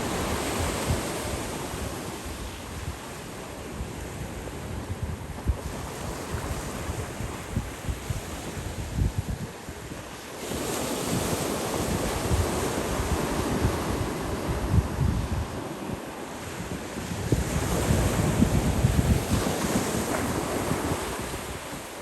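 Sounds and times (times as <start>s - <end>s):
waves washing on shore: 0.0s - 22.0s
wind buffeting microphone: 0.0s - 22.0s.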